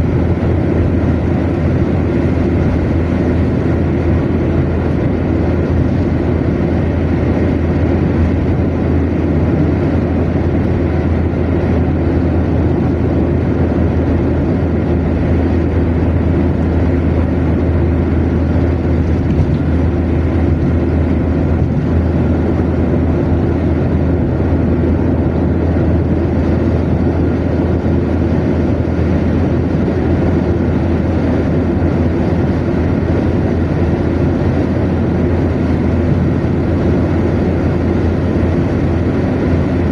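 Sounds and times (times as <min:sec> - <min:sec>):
low engine drone: 0:00.0 - 0:39.9
road and tyre noise: 0:00.0 - 0:39.9.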